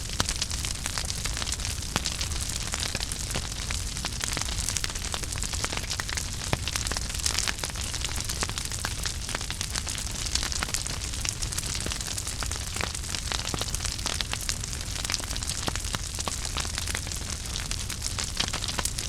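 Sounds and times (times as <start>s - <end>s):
fire popping and snapping: 0.0s - 19.0s
low rumble of flame: 0.0s - 19.0s.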